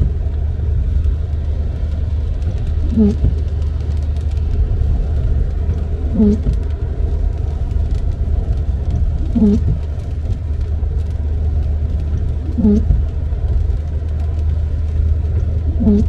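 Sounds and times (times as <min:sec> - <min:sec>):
road and tyre rumble: 0:00.0 - 0:16.0
windshield wipers juddering on glass: 0:00.0 - 0:16.0.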